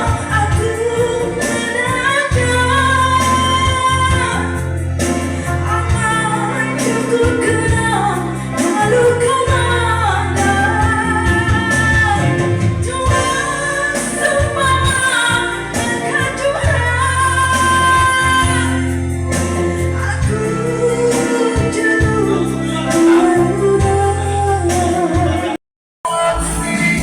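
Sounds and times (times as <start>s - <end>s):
woman singing: 0.0s - 19.0s, 20.0s - 27.0s
band accompaniment: 0.0s - 27.0s.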